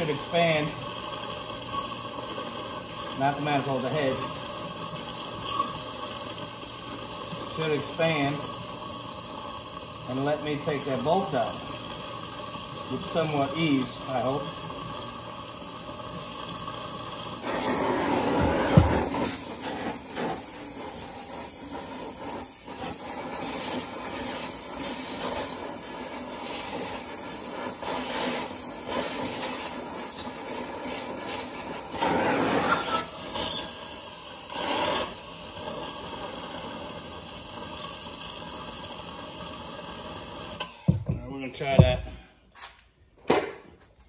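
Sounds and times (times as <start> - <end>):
gas torch flame hissing: 0.0 - 42.6.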